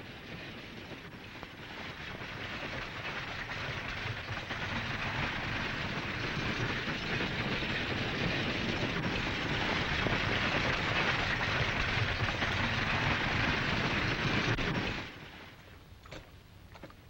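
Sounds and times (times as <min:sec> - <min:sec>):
coach wheels rattling: 0:00.0 - 0:15.6.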